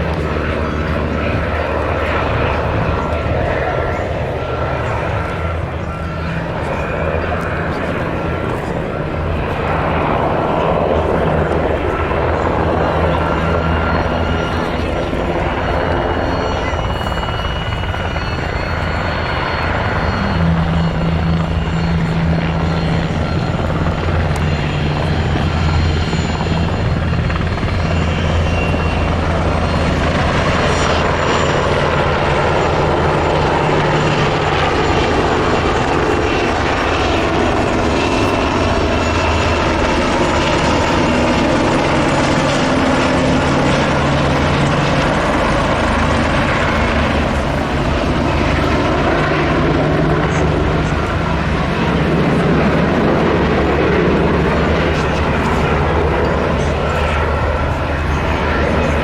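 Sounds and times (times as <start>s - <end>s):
helicopter rotor and engines: 0.0s - 59.0s.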